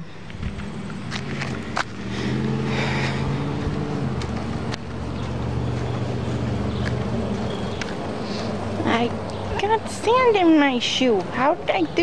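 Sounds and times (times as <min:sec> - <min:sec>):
engine running: 0:00.0 - 0:11.9.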